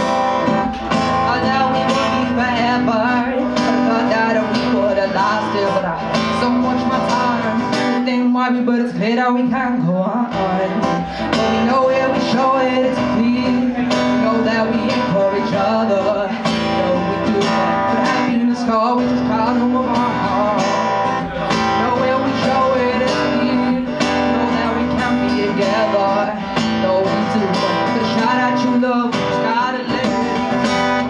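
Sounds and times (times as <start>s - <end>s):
acoustic guitar strumming: 0.0s - 31.0s
woman singing: 0.0s - 31.0s.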